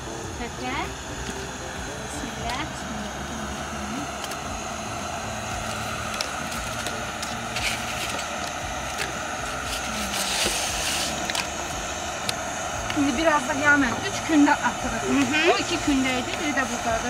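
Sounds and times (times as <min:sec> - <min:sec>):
water boiling in a pot: 0:00.0 - 0:17.0.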